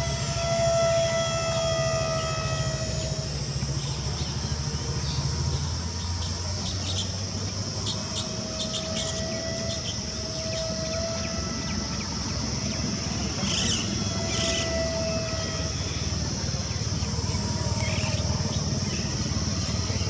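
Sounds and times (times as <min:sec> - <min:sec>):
constant hiss: 0:00.0 - 0:20.0
low hum: 0:00.0 - 0:20.0
rc jet motor whine: 0:00.0 - 0:20.0.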